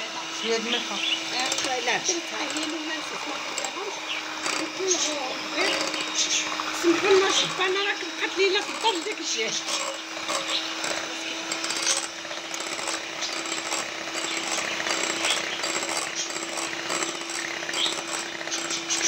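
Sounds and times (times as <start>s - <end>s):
electric hand mixer whipping eggs: 0.0s - 19.0s.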